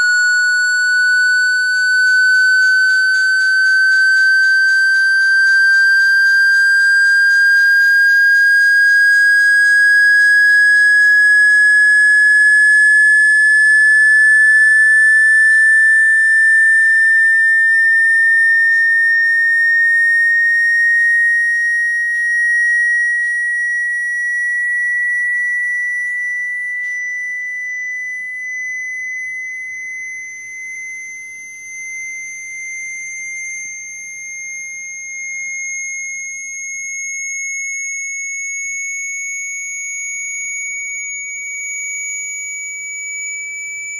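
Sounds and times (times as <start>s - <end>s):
rising sine-wave tone: 0.0s - 43.9s.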